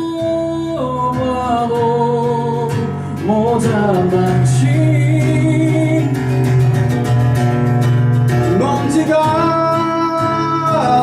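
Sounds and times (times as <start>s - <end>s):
man singing: 0.0s - 6.5s, 8.4s - 11.0s
acoustic guitar strumming: 0.0s - 11.0s.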